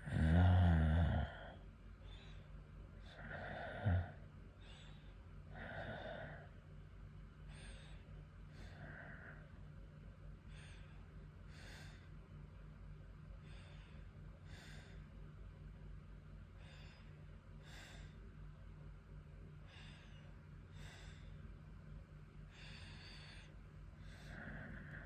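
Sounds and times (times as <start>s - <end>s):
man breathing slowly: 0.0s - 6.6s, 7.3s - 12.3s, 13.3s - 15.8s, 16.4s - 18.9s, 19.5s - 25.0s
faint steady hum: 0.0s - 25.0s.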